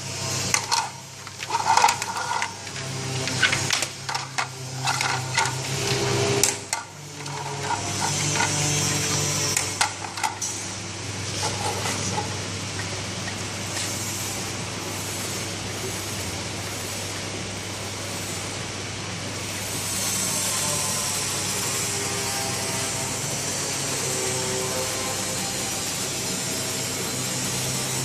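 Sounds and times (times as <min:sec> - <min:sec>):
factory machinery running: 0:00.0 - 0:28.0.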